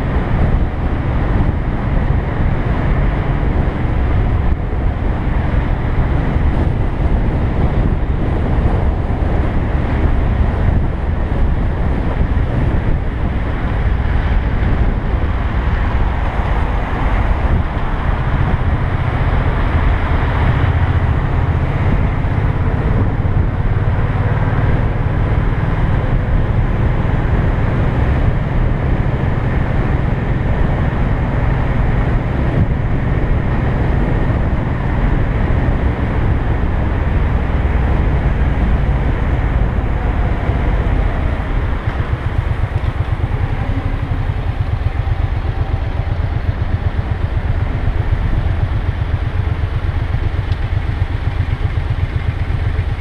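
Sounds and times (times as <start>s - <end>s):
motorcycle engine running: 0.0s - 53.0s
road noise: 0.0s - 53.0s
wind noise: 0.0s - 53.0s.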